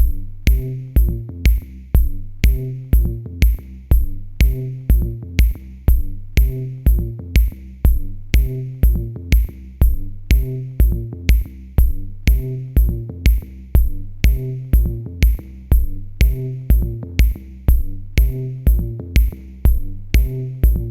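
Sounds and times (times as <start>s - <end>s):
low bass notes: 0.0s - 20.9s
steady drum beat: 0.0s - 20.9s.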